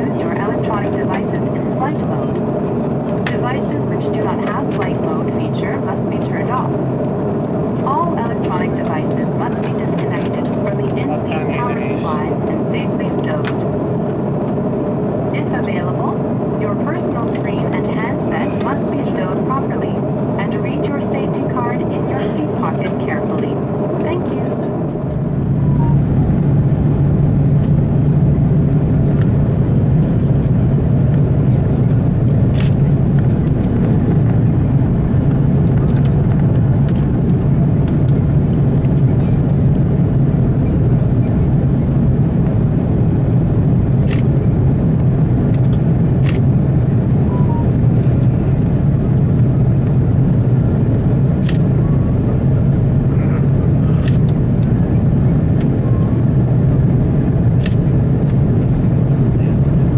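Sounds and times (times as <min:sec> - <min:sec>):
airliner cabin engine rush: 0:00.0 - 0:59.9.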